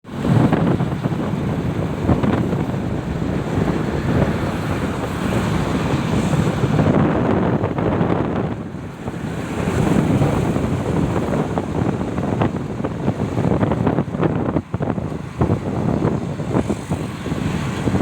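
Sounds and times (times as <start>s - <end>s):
sea waves washing in: 0.0s - 18.0s
wind buffeting microphone: 0.0s - 18.0s.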